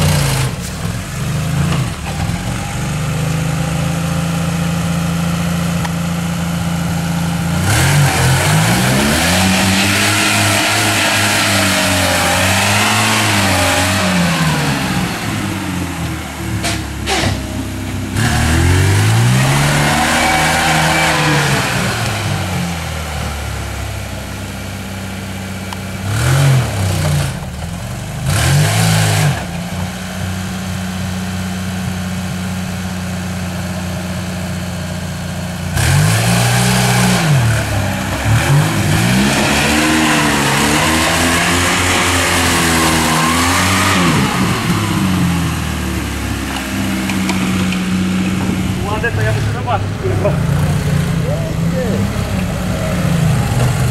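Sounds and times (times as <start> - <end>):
car engine revving: 0.0 - 32.9, 33.5 - 53.9.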